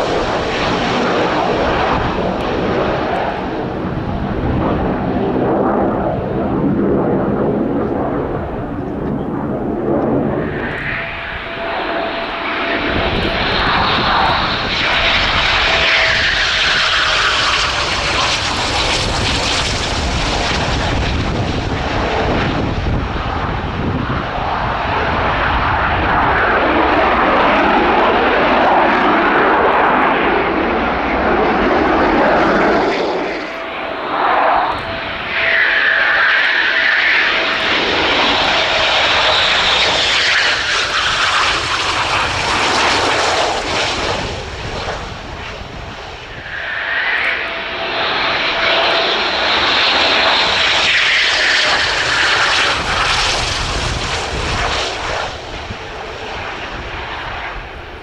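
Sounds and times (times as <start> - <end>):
jet engine roar at takeoff: 0.0 - 58.0
second jet taking off: 0.0 - 58.0.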